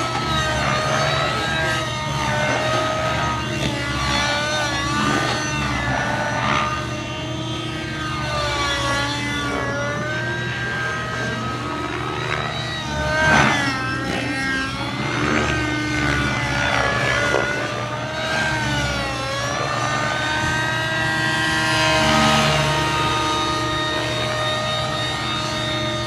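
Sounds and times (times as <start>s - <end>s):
rc helicopter engine and rotor whine: 0.0s - 26.0s.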